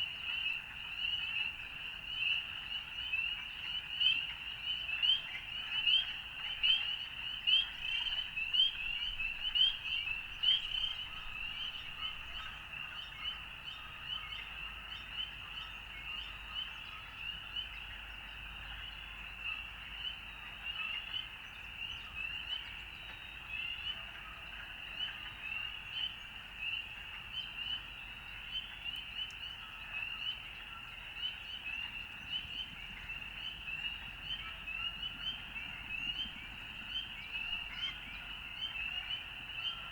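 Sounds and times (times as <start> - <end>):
frogs chorus: 0.0 - 39.9.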